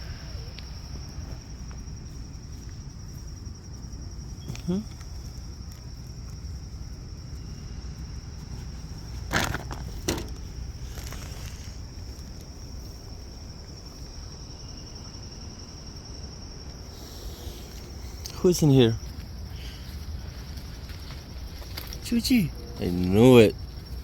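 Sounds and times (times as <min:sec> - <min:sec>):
crickets trilling: 0:00.0 - 0:24.0
low outdoor rumble: 0:00.0 - 0:24.0.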